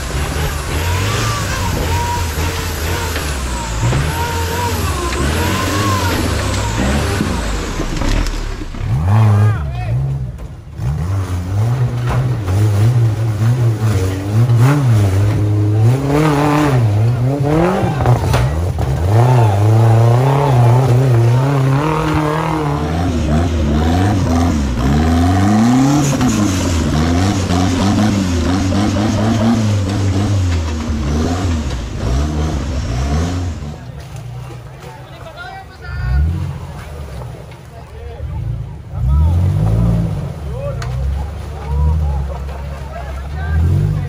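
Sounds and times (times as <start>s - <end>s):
engine revving up and down: 0.0s - 34.0s, 38.2s - 44.0s.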